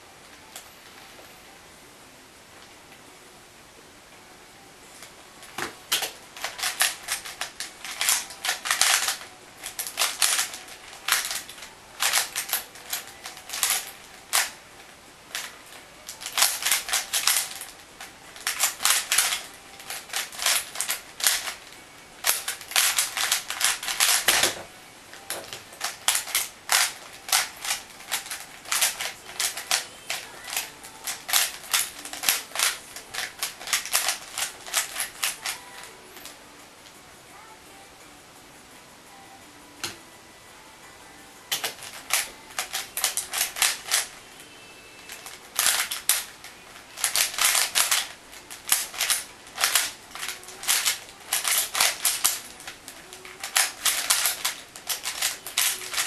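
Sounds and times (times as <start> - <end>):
puzzle cube clicking: 5.0 - 36.4, 41.5 - 56.0.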